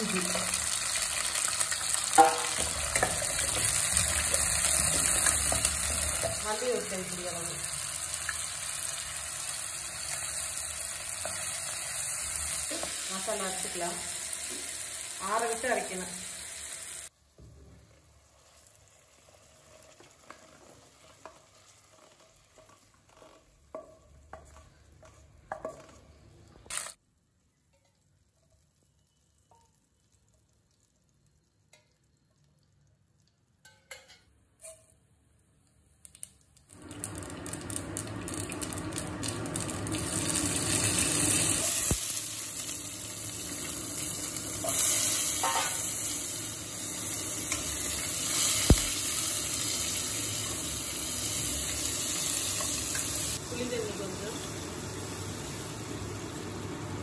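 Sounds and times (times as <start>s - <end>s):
onions sizzling in hot oil: 0.0s - 27.0s, 36.1s - 57.0s.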